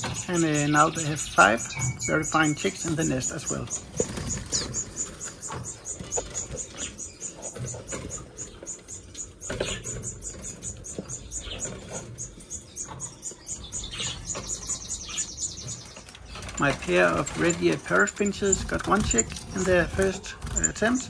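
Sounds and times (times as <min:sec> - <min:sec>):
finches ticking chatter: 0:00.0 - 0:21.0.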